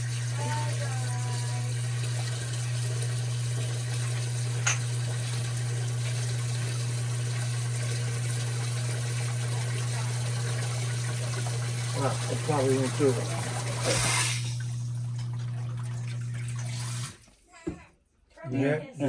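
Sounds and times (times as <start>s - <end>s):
sump pump humming: 0.0s - 17.3s.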